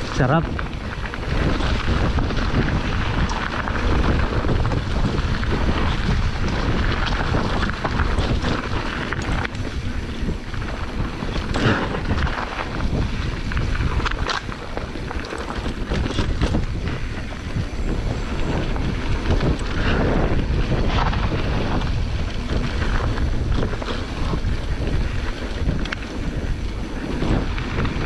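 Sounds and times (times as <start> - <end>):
bike rattling over bumps: 0.0 - 28.0
tyres rumbling on dirt: 0.0 - 28.0
wind buffeting microphone: 0.0 - 28.0.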